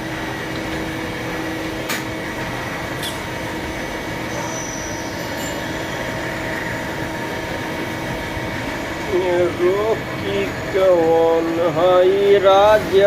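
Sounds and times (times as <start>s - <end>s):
cnc machine running: 0.0s - 13.0s.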